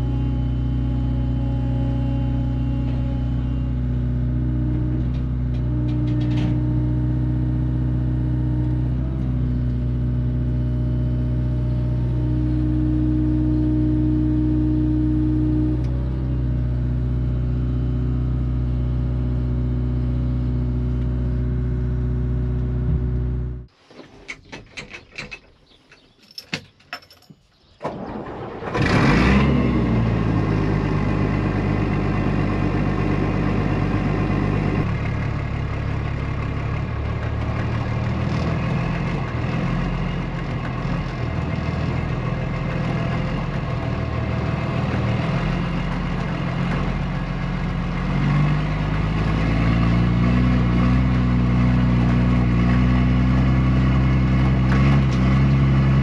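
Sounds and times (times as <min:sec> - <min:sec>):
tractor engine running: 0:00.0 - 0:23.7, 0:27.9 - 0:56.0.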